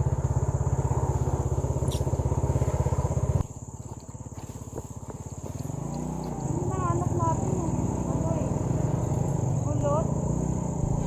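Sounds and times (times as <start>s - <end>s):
high-pitched insect call: 0.0s - 11.0s
motorcycle engine running: 0.0s - 11.0s.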